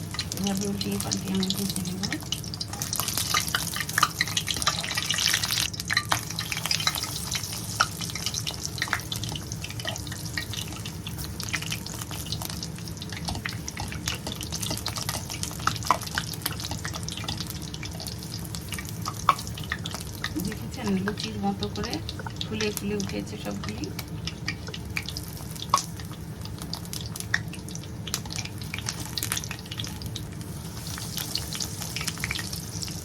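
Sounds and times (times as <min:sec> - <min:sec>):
deep-frying sizzle and pops: 0:00.0 - 0:33.0
low steady hum: 0:00.0 - 0:33.0.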